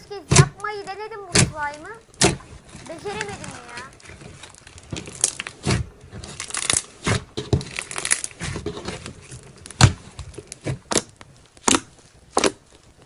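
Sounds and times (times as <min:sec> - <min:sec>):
slime popping and crackling: 0:00.0 - 0:13.0.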